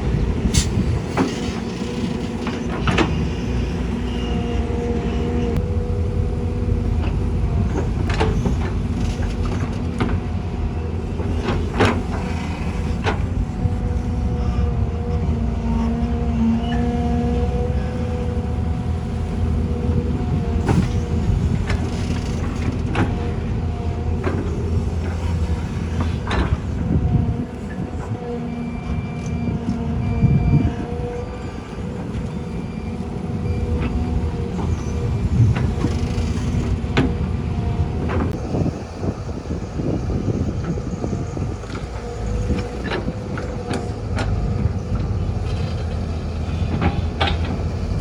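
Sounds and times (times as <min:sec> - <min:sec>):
diesel engines running: 0:00.0 - 0:48.0.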